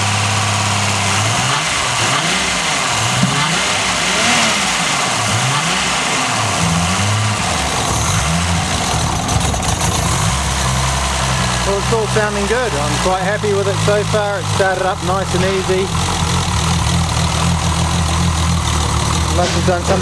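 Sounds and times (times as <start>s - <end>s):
car engine revving: 0.0s - 20.0s
noisy hydraulic lifters: 0.6s - 20.0s.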